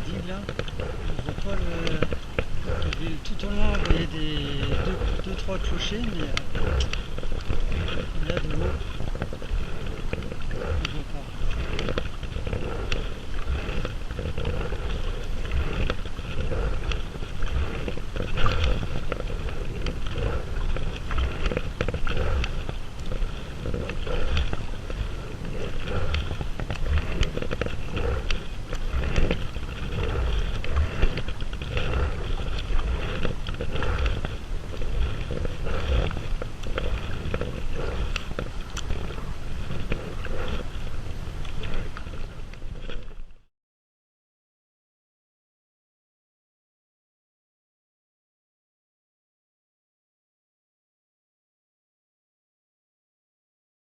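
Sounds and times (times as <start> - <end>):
wind buffeting microphone: 0.0 - 43.2
water rushing around kayak: 0.0 - 43.5.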